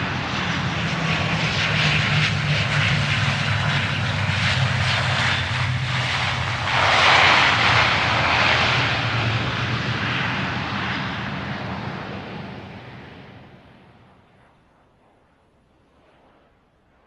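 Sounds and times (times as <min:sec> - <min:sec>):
jet engines of landing airliner: 0:00.0 - 0:16.5.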